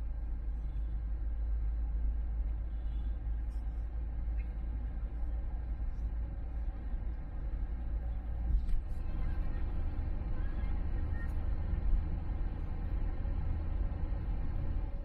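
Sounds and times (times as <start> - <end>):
car road rumble: 0.0 - 15.0.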